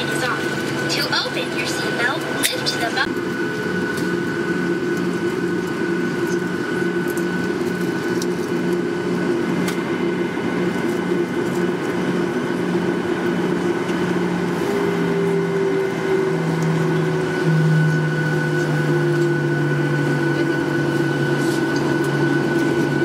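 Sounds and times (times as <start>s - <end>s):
jet engines humming at low power: 0.0s - 23.0s.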